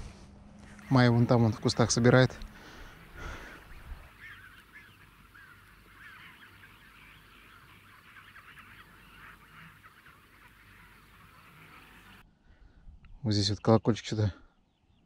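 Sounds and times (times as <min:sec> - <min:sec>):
distant birds calling: 0:00.0 - 0:13.8.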